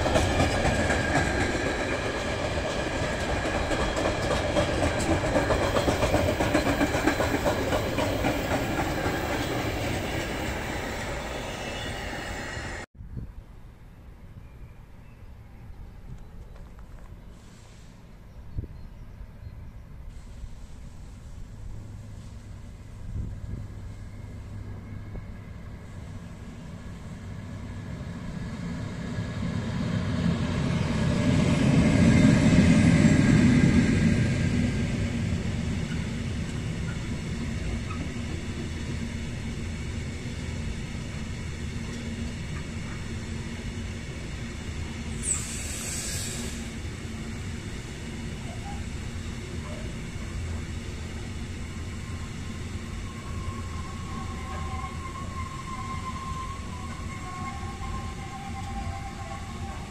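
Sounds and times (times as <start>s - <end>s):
electric locomotive passing: 0.0s - 12.9s, 20.3s - 59.9s.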